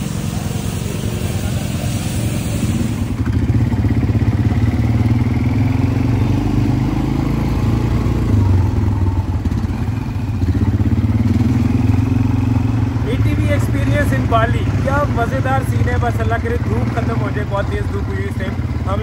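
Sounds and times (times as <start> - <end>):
quad bike engine running: 0.0 - 19.0.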